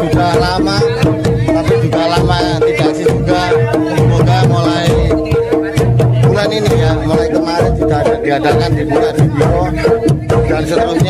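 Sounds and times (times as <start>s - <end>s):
drums beating: 0.0s - 11.0s
repeated pitched percussion notes: 0.0s - 11.0s.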